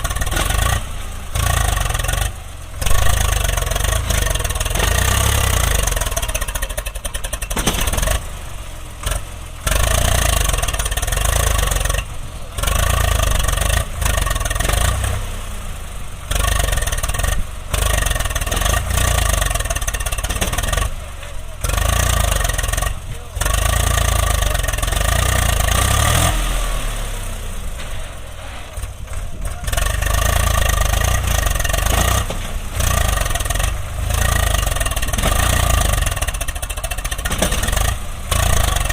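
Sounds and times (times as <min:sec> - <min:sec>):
diesel engines revving: 0:00.0 - 0:38.9.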